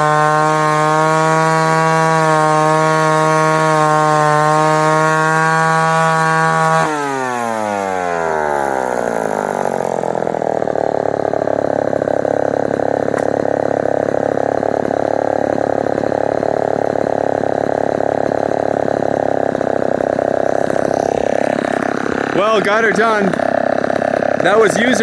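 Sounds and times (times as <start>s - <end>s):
chainsaw engine winding down to idle: 0.0s - 25.0s.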